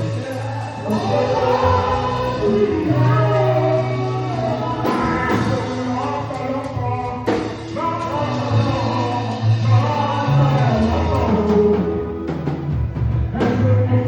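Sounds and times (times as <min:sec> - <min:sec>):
gospel music with voices singing: 0:00.0 - 0:14.0.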